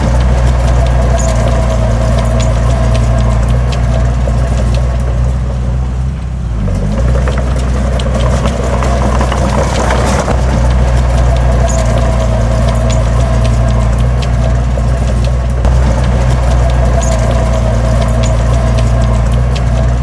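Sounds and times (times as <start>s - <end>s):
heavy diesel engine running: 0.0s - 20.0s
metal clanks: 0.0s - 20.0s
noisy rush: 0.0s - 20.0s.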